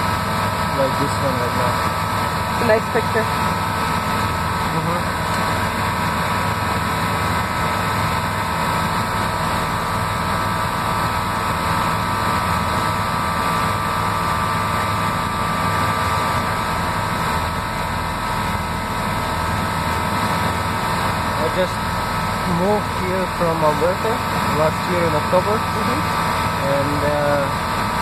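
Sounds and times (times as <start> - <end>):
plane engine droning: 0.0 - 28.0.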